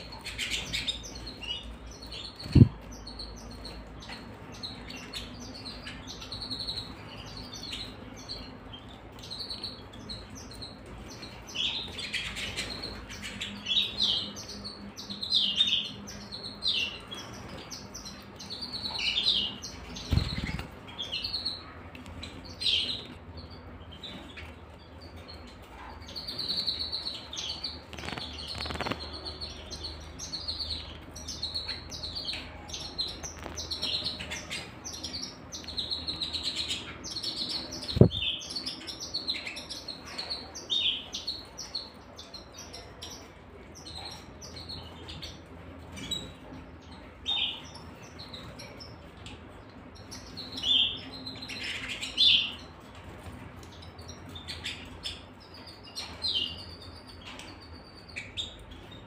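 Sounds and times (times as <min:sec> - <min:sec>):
canaries chirping and trilling: 0:00.0 - 0:59.0.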